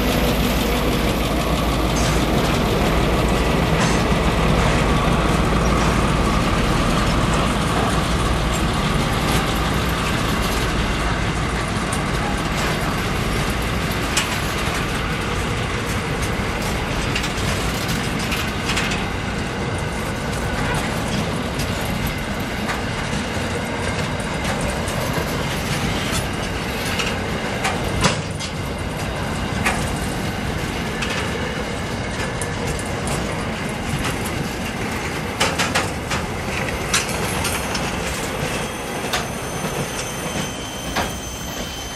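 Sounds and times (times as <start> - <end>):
deep rumble of wagons: 0.0 - 41.9
train wheels clattering over rails: 0.0 - 41.9.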